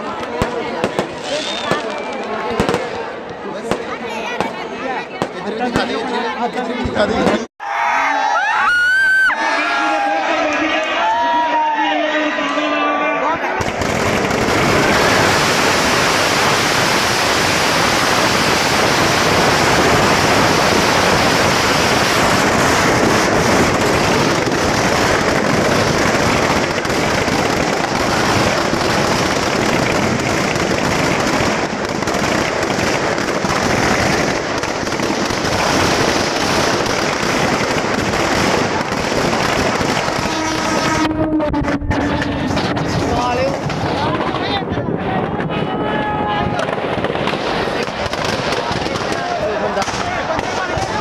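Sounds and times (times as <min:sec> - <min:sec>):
firecrackers crackling: 0:00.0 - 0:07.5, 0:13.4 - 0:51.0.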